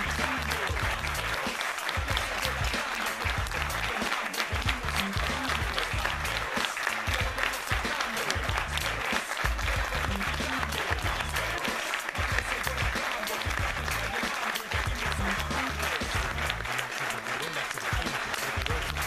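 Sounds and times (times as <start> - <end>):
background music with bass: 0.0 - 19.0
crowd applauding: 0.0 - 19.0.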